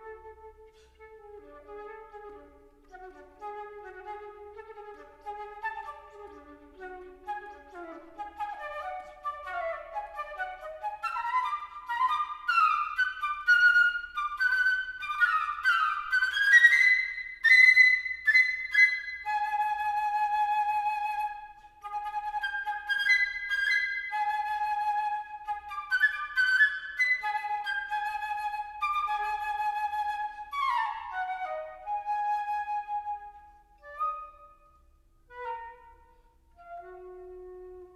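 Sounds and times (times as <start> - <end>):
solo flute playing: 0.0 - 37.9.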